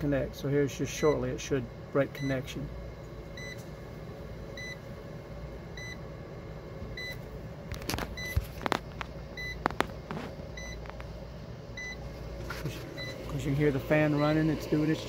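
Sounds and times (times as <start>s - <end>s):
cooling fan humming: 0.0s - 15.0s.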